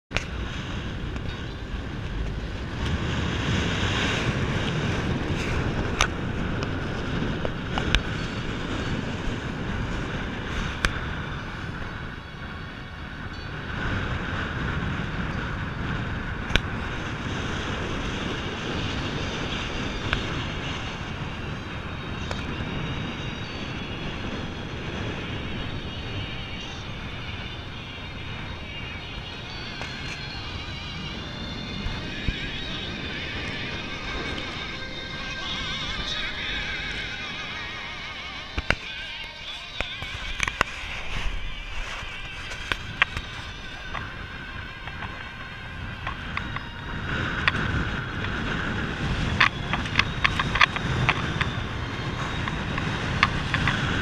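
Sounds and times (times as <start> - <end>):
tyre and road noise: 0.1 - 54.0
wind rushing over microphone: 0.1 - 54.0.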